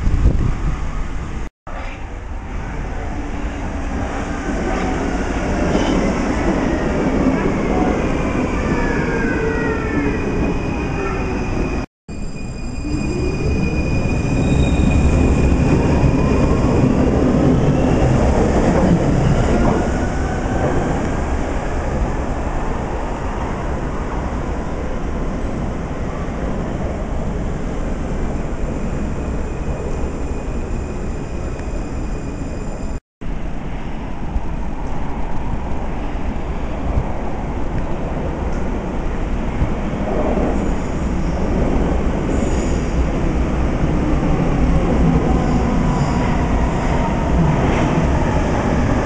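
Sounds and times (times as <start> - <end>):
train rumbling through tunnel: 0.0 - 49.0.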